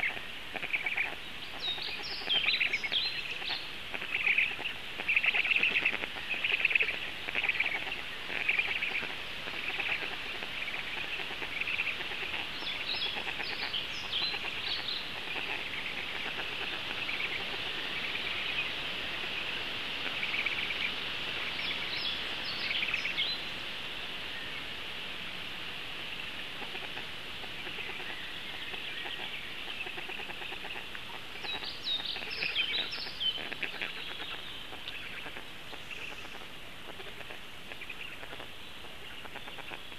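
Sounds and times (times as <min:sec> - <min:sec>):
background of birds: 0:00.0 - 0:39.9.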